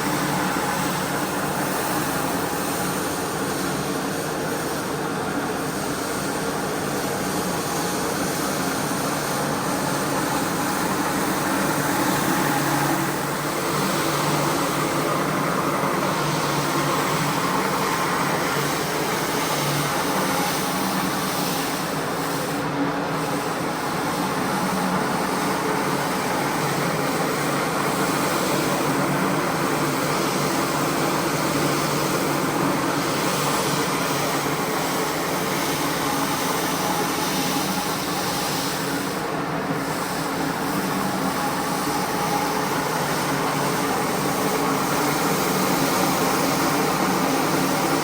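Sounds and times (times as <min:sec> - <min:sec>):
carpet cleaning machine running: 0:00.0 - 0:48.0.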